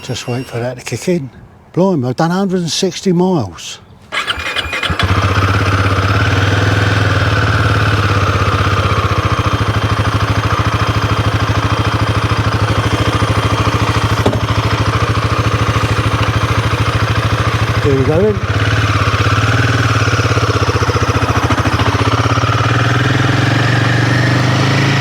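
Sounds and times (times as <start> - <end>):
motorcycle engine idling: 4.2 - 25.0.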